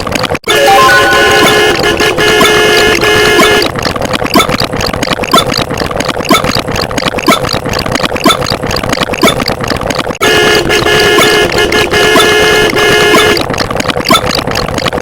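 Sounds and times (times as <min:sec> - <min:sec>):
mechanical rapid clicking: 0:01.2 - 0:15.0.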